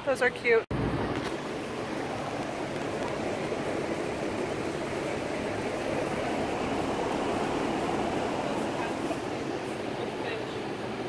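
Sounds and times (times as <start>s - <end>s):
electric fan rushing air: 0.7s - 11.0s.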